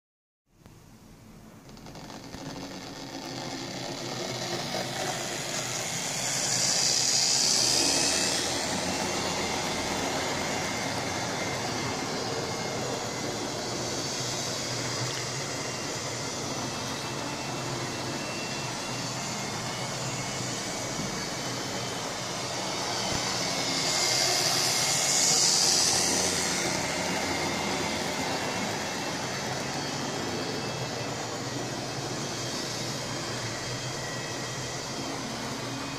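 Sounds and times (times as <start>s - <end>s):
model locomotive motor whining: 1.6s - 35.9s
hiss: 1.7s - 35.9s.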